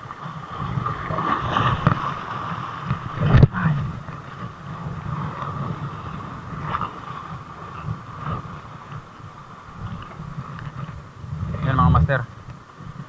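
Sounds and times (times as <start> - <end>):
microphone handling rumble: 0.5 - 13.0.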